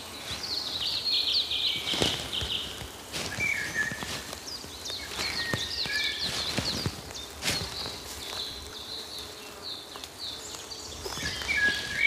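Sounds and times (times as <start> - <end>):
birds chirping: 0.0 - 12.0
footsteps on forest track: 0.0 - 12.0.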